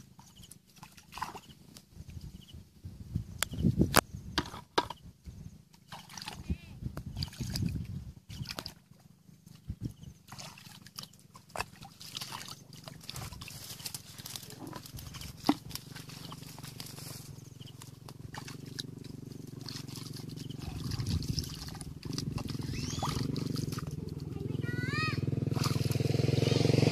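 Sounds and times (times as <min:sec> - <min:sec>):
splashes in muddy water: 0:00.0 - 0:01.9, 0:05.7 - 0:26.9.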